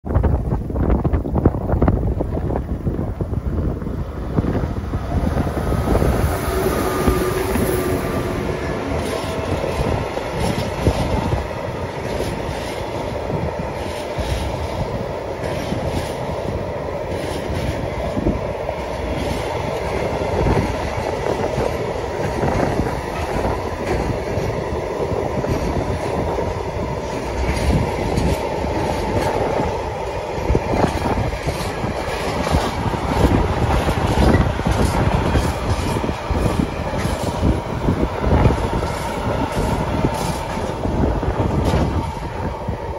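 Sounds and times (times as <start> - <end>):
train wheels clacking on rails: 0.6 - 42.9.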